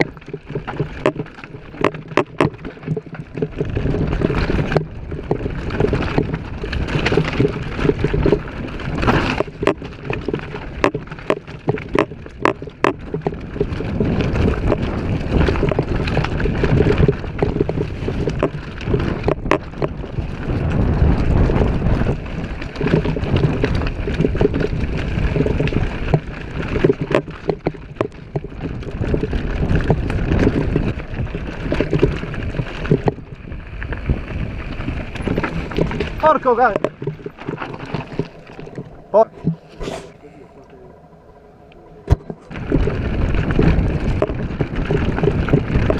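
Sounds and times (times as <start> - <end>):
bike clicking and rattling: 0.0 - 45.9
bike tyres rumbling over dirt: 0.0 - 45.9.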